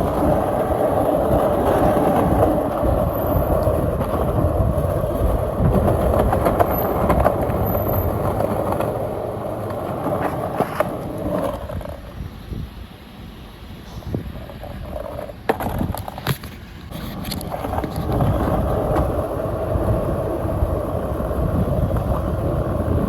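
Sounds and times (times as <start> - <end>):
skateboard wheels rolling on pavement: 0.0 - 23.0.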